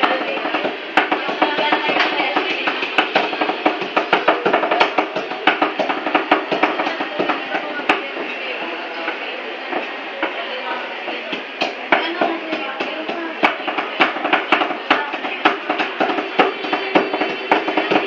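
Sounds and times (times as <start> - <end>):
cleavers chopping on wooden board: 0.0 - 8.0, 11.3 - 18.0.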